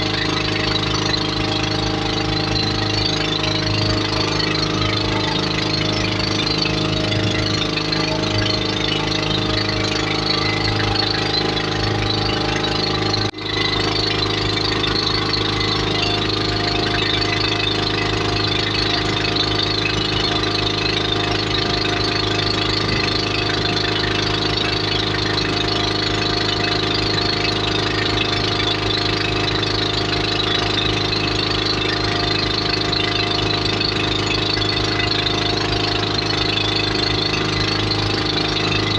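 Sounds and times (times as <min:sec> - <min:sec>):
motorboat engine droning: 0:00.0 - 0:38.9.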